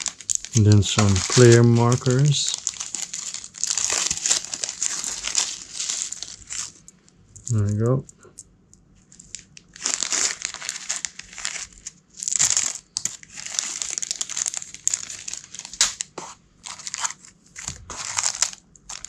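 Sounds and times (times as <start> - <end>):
plastic bag crinkling: 0.0 - 7.8, 9.0 - 19.0.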